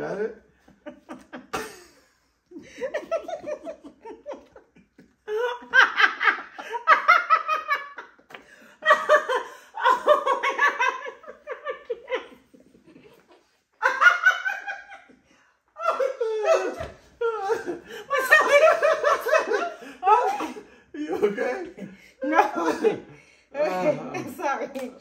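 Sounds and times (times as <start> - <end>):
people laughing hard: 0.7 - 15.2, 15.8 - 23.2.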